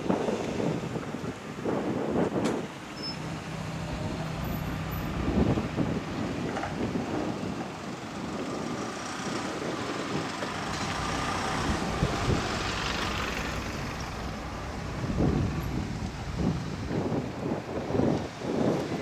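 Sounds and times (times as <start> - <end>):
engine rumble: 0.5 - 18.6
even wash of noise: 2.7 - 19.0.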